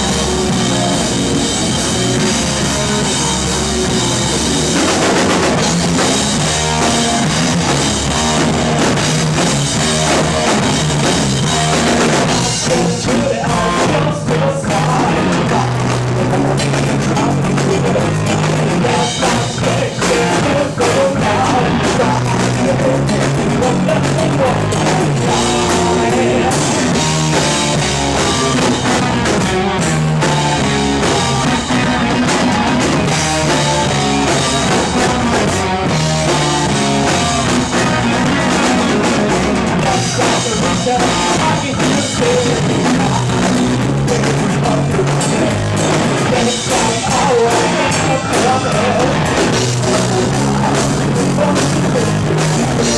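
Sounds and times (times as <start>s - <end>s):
rock band playing live: 0.0s - 52.9s.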